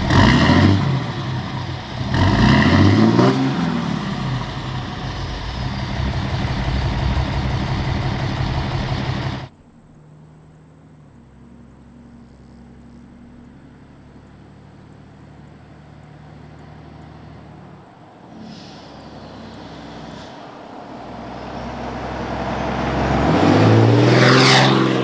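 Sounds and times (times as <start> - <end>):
diesel engine revving and idling: 0.0 - 9.8, 10.5 - 25.0
distant low engine hum: 0.0 - 25.0.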